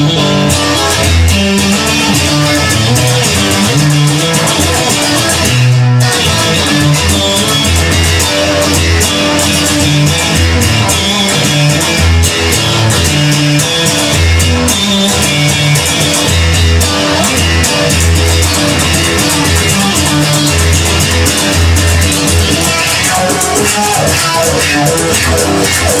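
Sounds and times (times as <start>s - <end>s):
bass line: 0.0s - 26.0s
drum kit beat: 0.0s - 26.0s
electric guitar: 0.0s - 26.0s.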